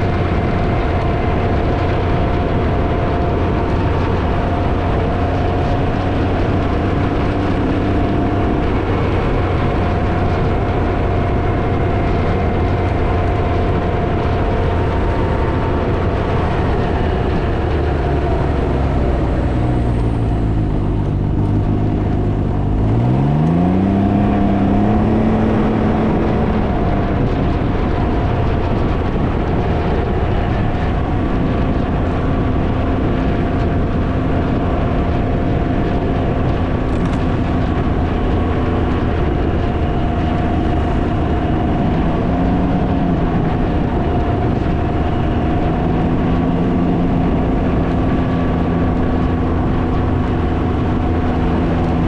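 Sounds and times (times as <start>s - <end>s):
motorcycle engine running: 0.0s - 52.0s
wind noise on microphone: 0.0s - 52.0s.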